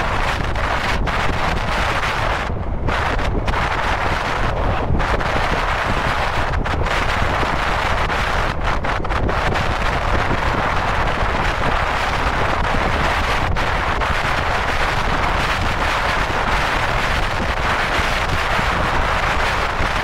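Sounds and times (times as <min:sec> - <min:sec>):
road and tyre noise: 0:00.0 - 0:20.0
wind rushing over microphone: 0:00.0 - 0:20.0.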